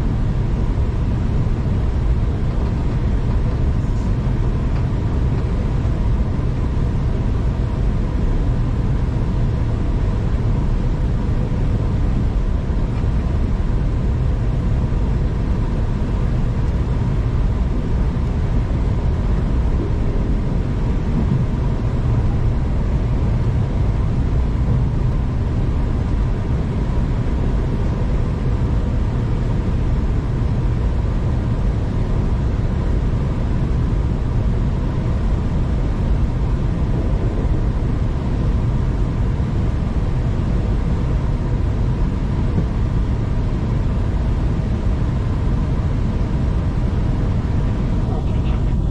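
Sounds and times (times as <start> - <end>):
moving passenger train rumble: 8.0 - 46.0, 46.6 - 48.9.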